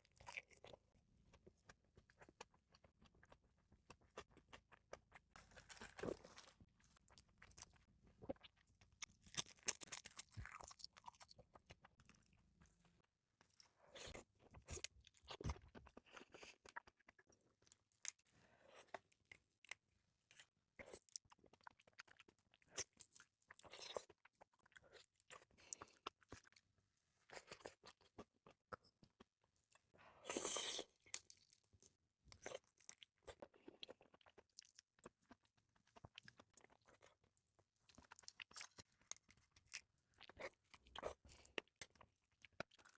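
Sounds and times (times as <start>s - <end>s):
chewing and wet mouth sounds: 0.0s - 42.9s.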